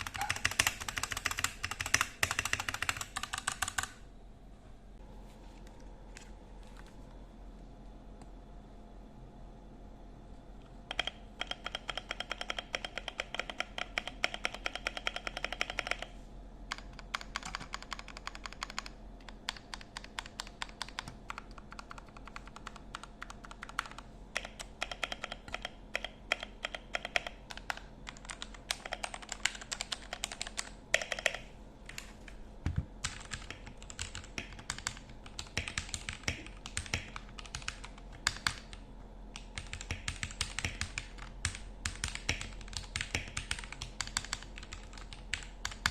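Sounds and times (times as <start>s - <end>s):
mechanical keyboard typing: 0.0s - 4.0s, 10.9s - 16.1s, 16.7s - 32.1s, 33.0s - 38.8s, 39.4s - 45.9s.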